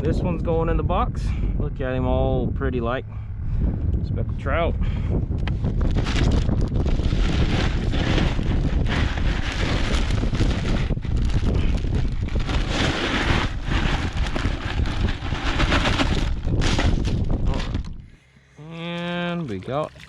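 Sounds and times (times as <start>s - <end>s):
wind buffeting microphone: 0.0s - 18.2s.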